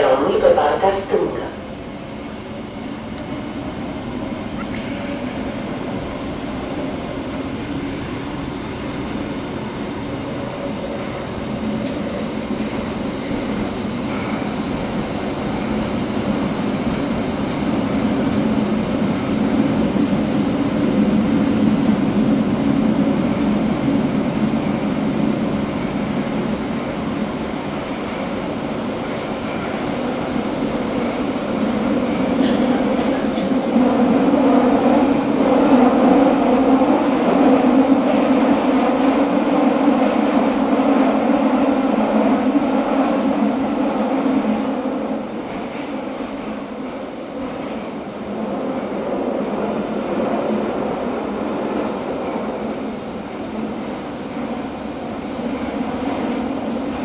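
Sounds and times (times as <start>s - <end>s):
metro train rumbling in tunnel: 0.0s - 57.0s.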